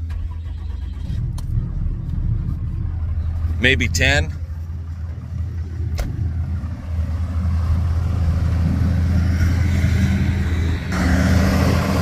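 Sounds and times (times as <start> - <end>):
tractor diesel engine: 0.0 - 12.0.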